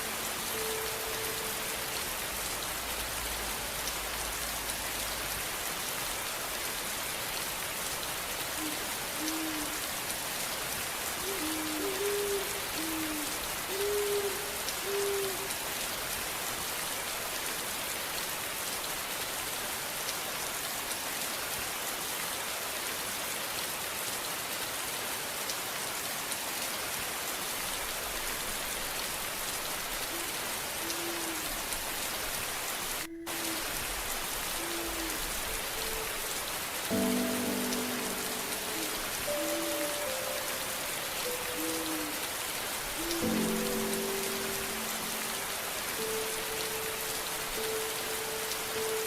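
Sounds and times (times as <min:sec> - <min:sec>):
steady rain hissing: 0:00.0 - 0:49.0.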